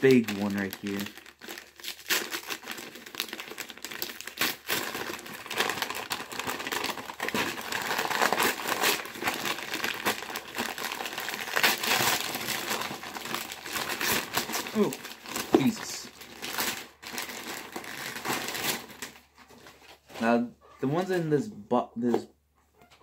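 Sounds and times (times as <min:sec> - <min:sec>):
wrapping paper crinkling and tearing: 0:00.0 - 0:20.1.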